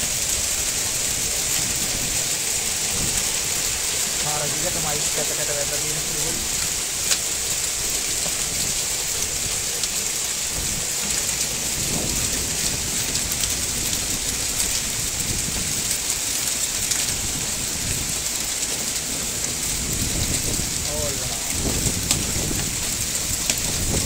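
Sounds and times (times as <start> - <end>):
hailstones ticking: 0.0 - 24.0
heavy rain: 0.0 - 24.0.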